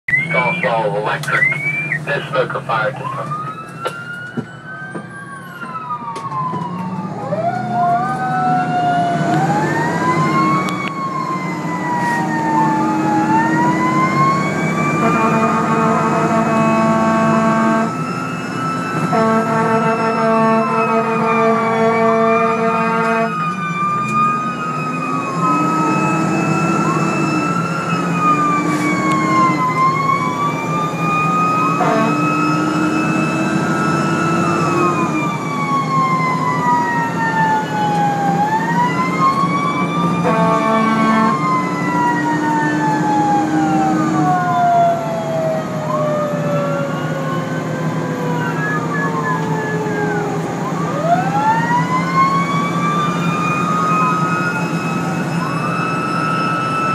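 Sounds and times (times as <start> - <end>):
fire engine sirens wailing: 0.0 - 56.9
fire engine running: 0.1 - 56.9.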